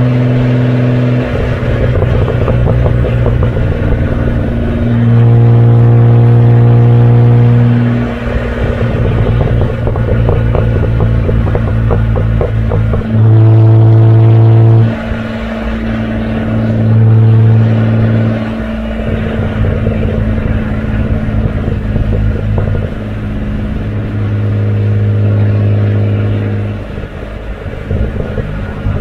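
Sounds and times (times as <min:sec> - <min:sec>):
car exhaust drone: 0:00.0 - 0:29.0.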